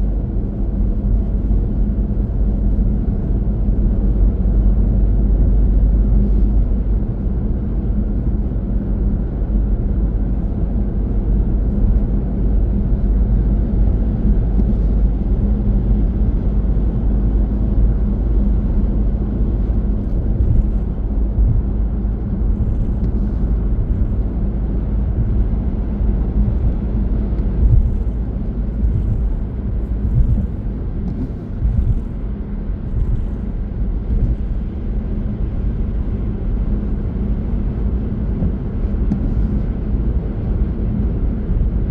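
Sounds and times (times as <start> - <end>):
car tyre and engine rumble: 0.0 - 41.9.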